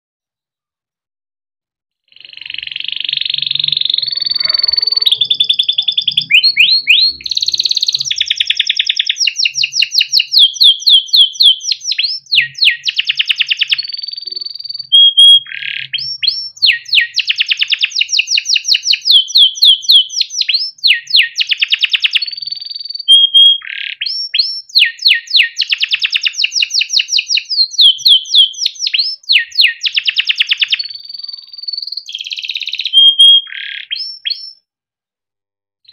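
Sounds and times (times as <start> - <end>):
canary singing: 2.1 - 34.6.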